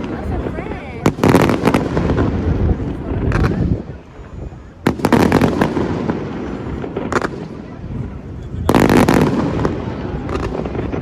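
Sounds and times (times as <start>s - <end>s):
fireworks exploding: 0.0s - 11.0s.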